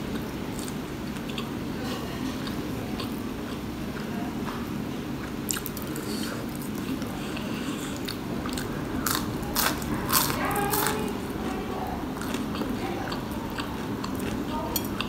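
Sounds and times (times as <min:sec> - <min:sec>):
close chewing: 0:00.0 - 0:01.5, 0:02.2 - 0:15.0.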